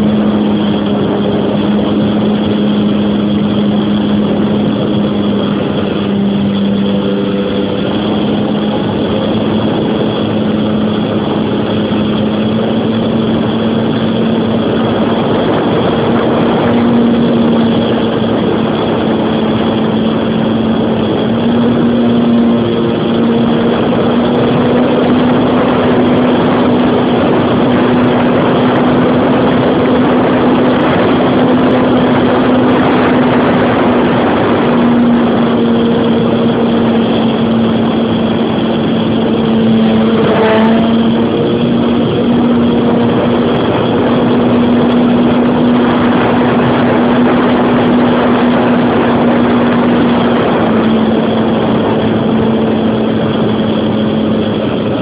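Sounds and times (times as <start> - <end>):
electric motor and propeller hum: 0.0 - 55.0
rushing noise: 0.0 - 55.0.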